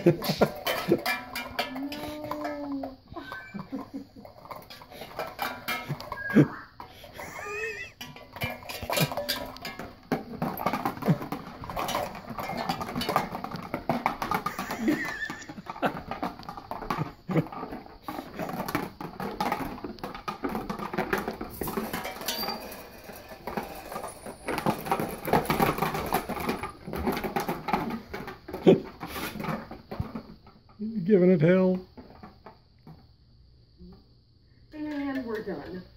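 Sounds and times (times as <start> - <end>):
plastic cups clattering together: 0.0 - 30.8.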